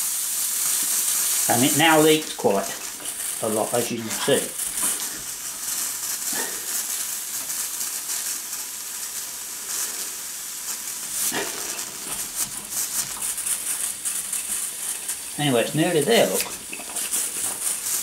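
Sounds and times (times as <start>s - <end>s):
steam hissing: 0.0s - 18.0s.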